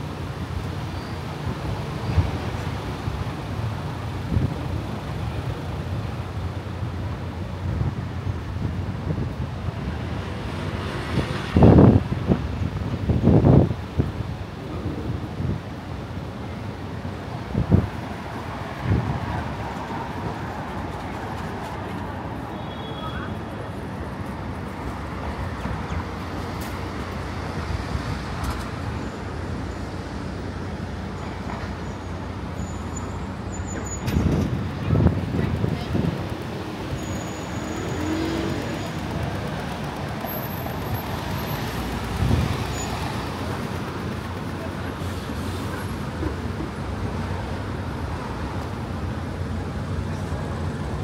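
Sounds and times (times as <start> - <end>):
cars driving through intersection: 0.0 - 51.0
city street traffic: 0.0 - 51.0
low rumble of engines and tyres: 0.0 - 51.0.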